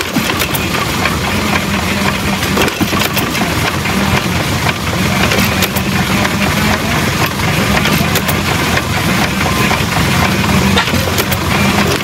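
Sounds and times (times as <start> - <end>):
small two-stroke engine running: 0.0 - 12.0.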